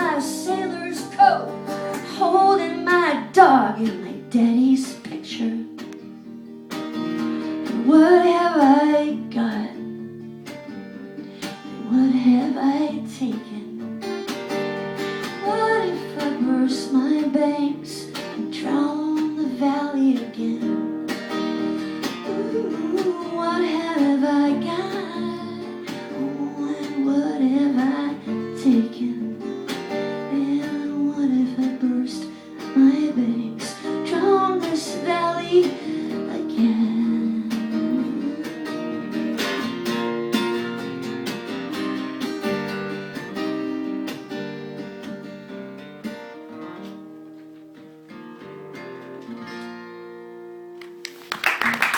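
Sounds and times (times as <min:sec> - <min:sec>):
acoustic guitar strumming: 0:00.0 - 0:51.3.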